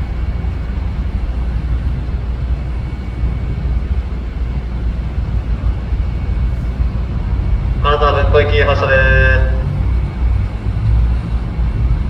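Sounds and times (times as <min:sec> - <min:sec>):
standing train rumble and hiss: 0:00.0 - 0:12.0.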